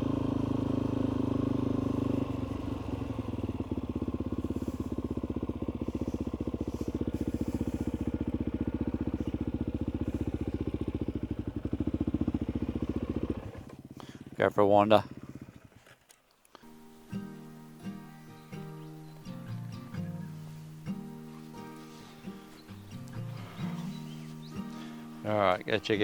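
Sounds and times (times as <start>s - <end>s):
dirt bike engine idling: 0.0s - 17.8s, 18.8s - 26.0s.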